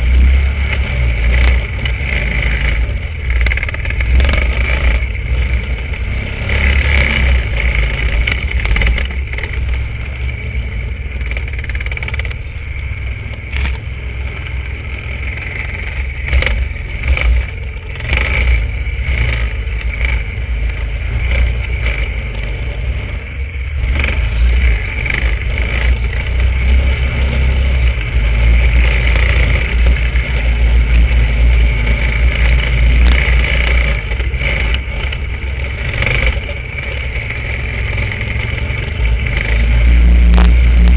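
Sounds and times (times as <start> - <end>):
snowmobile engine running: 0.0 - 40.9
wind rumble on microphone: 0.0 - 40.9.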